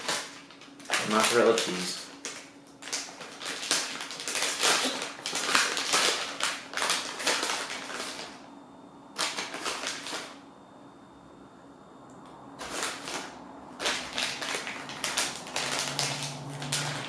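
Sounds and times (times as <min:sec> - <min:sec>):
plastic bag crinkling: 0:00.0 - 0:08.4, 0:09.2 - 0:10.4, 0:12.6 - 0:17.0.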